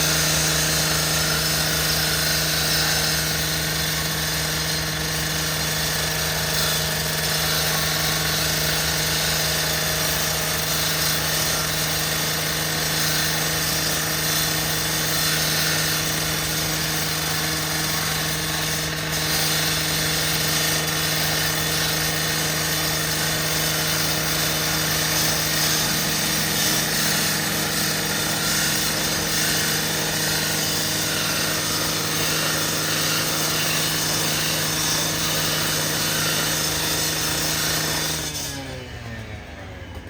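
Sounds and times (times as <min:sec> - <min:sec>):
rotary saw cutting metal: 0:00.0 - 0:39.4
saw winding down: 0:00.0 - 0:40.0.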